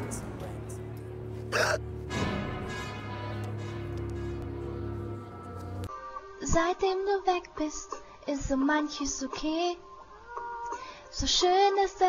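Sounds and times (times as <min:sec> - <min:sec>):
soft instrumental music: 0:00.0 - 0:11.6.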